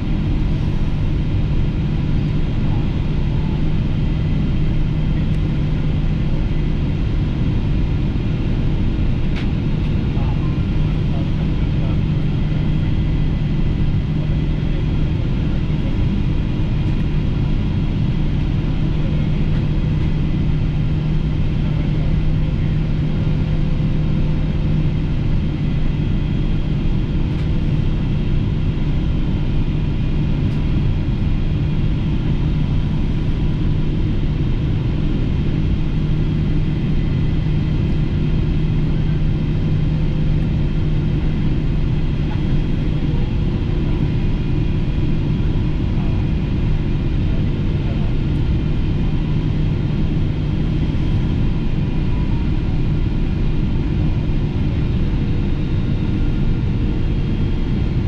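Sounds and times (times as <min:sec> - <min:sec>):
airplane cabin engine drone: 0:00.0 - 0:58.0
faint steady whines: 0:00.0 - 0:58.0.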